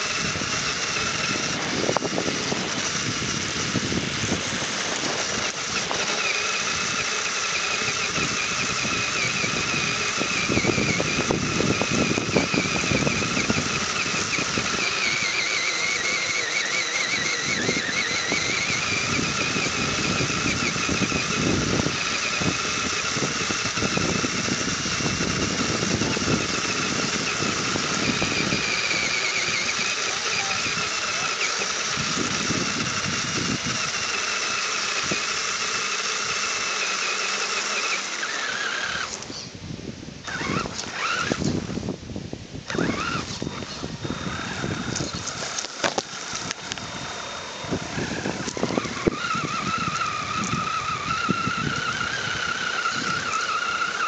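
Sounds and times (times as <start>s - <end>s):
rc car motor whining: 0.0s - 54.0s
uneven rumble over rough ground: 0.0s - 54.0s.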